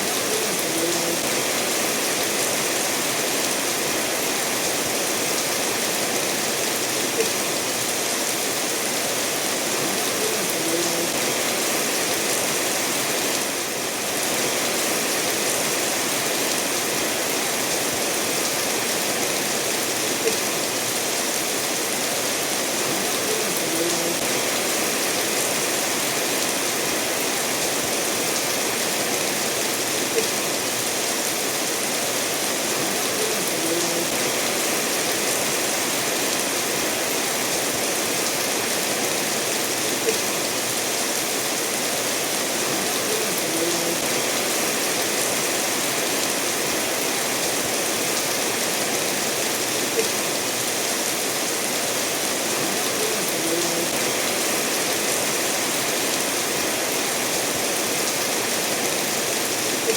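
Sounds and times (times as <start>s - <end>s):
steady rainfall: 0.0s - 59.9s
stream running over stones: 0.0s - 59.9s.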